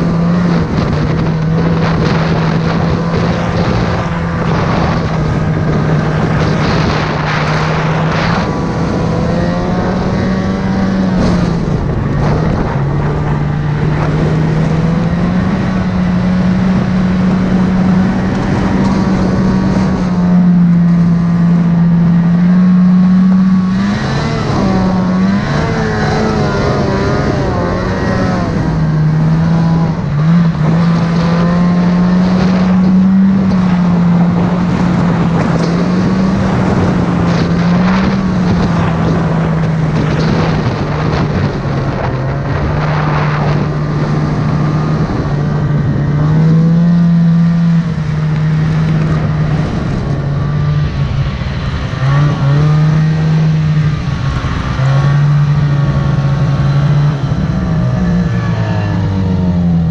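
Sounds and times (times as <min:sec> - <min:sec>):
snowmobile engine droning: 0:00.0 - 0:59.9.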